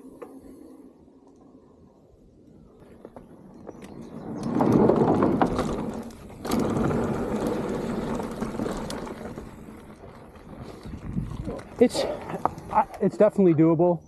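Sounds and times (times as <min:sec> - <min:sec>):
bike tyres rolling on dirt: 0:00.0 - 0:14.0.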